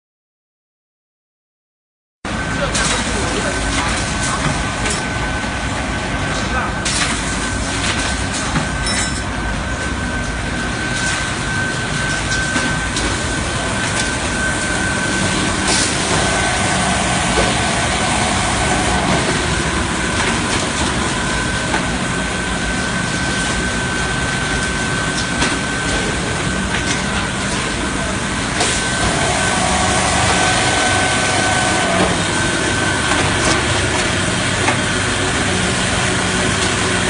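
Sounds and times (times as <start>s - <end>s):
factory machinery din: 2.3s - 37.0s
steady high whine: 2.3s - 37.0s.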